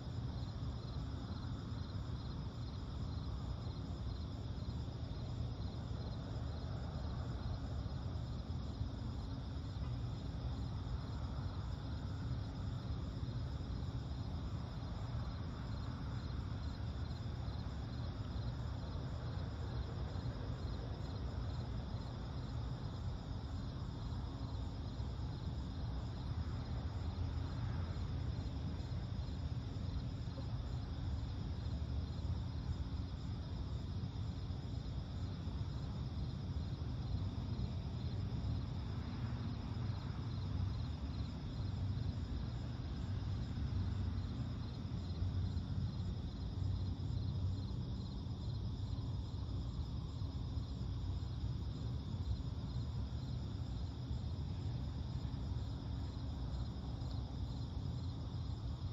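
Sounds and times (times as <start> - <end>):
continuous low rumble: 0.0 - 58.9
night insects chirping: 0.0 - 58.9.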